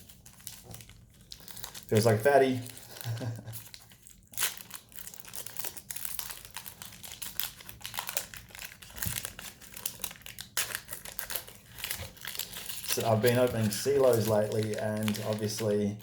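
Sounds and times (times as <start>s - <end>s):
card pack wrapper tearing and crinkling: 0.0s - 16.0s.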